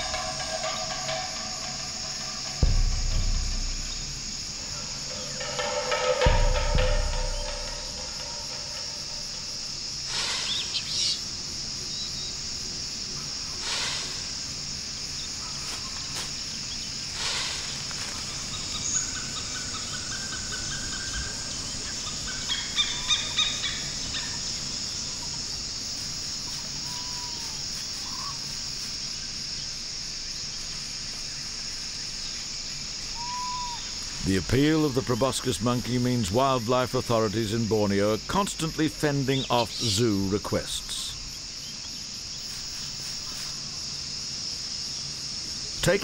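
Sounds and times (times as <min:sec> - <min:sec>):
bird calls: 0:00.0 - 0:12.4, 0:15.0 - 0:25.6, 0:26.4 - 0:29.7, 0:32.1 - 0:43.6
high-pitched insect drone: 0:00.0 - 0:46.0.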